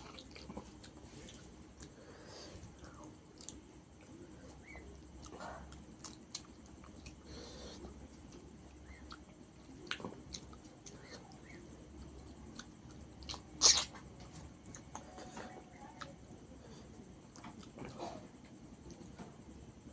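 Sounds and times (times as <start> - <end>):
person chewing food: 0.0 - 16.2, 16.8 - 19.1.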